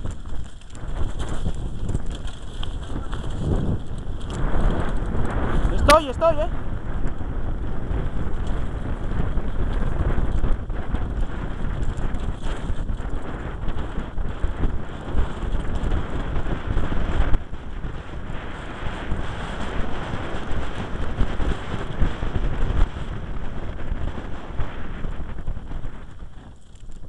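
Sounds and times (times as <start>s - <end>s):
bike tyres and frame rattling: 0.0s - 27.0s
wind buffeting microphone: 0.0s - 27.0s.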